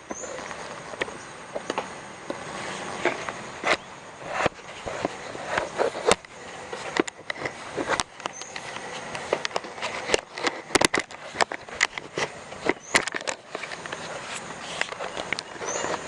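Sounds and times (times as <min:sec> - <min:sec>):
steady hiss: 0:00.0 - 0:16.0
sharp clicks and knocks: 0:03.0 - 0:16.0.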